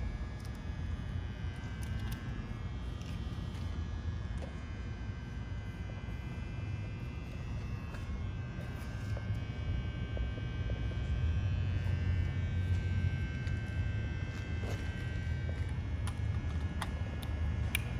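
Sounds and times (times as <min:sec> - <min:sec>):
high-pitched whine: 0:00.0 - 0:17.9
low mechanical drone: 0:00.0 - 0:17.9.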